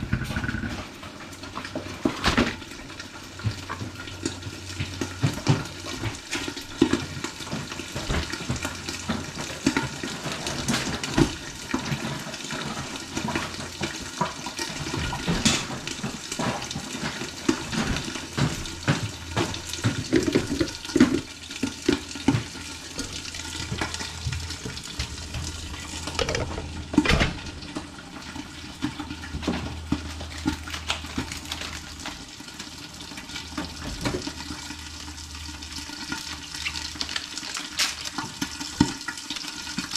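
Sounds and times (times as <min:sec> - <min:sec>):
knocks and clatter in sink: 0:00.0 - 0:31.8, 0:33.4 - 0:34.5
tap water running into sink: 0:00.0 - 0:39.9.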